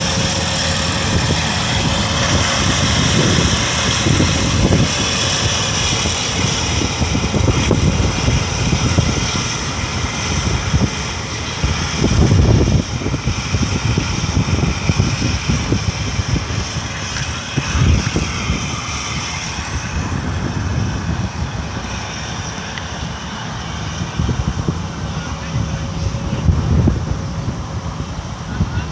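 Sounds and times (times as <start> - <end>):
harvester engine rumbling: 0.0 - 28.9
machinery noise: 0.0 - 28.9.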